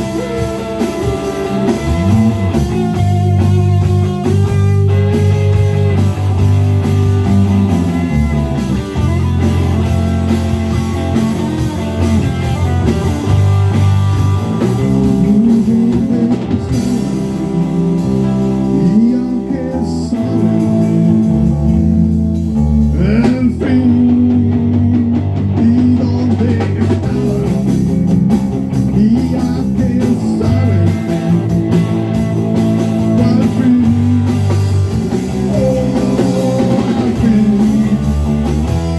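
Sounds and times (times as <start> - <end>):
band playing instrumental: 0.0 - 38.9
electric guitar bent notes: 0.0 - 38.9.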